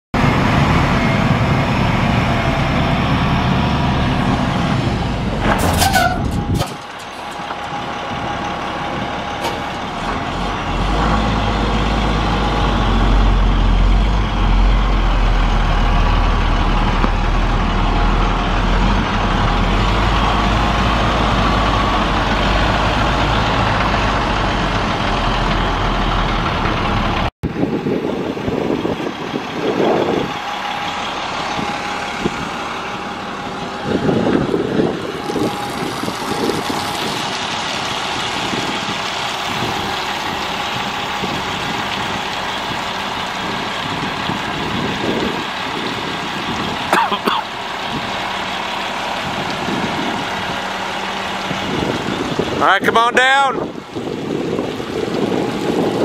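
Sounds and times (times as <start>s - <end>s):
diesel truck engine running: 0.2s - 56.0s.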